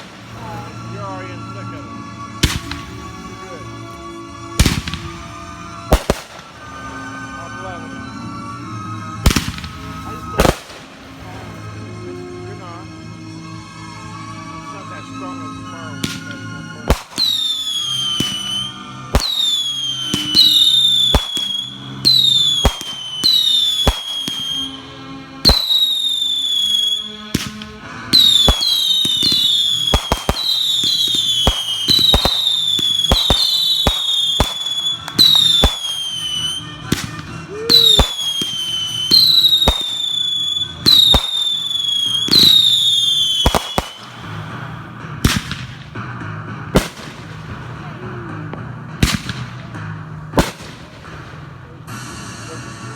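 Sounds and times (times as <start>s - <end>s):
firework bangs: 0.0s - 8.2s, 9.1s - 12.0s, 15.8s - 52.6s
whistling fireworks: 0.0s - 12.8s, 13.4s - 52.9s.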